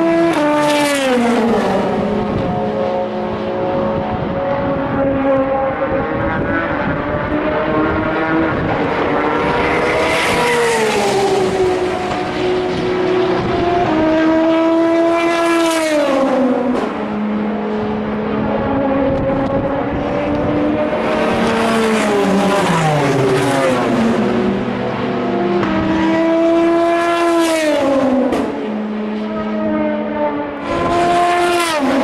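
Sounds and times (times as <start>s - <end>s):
car engines running: 0.0s - 32.0s
race cars passing at speed: 0.0s - 32.0s.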